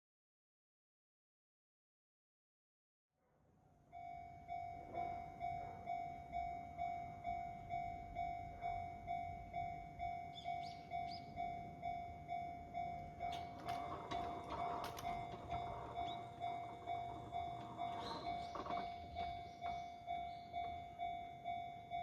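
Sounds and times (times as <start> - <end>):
level-crossing warning bell: 3.6 - 22.0.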